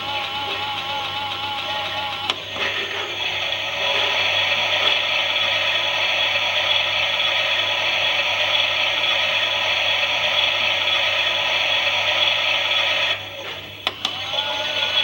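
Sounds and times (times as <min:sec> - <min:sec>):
toy washing machine motor whirring: 0:00.0 - 0:15.0.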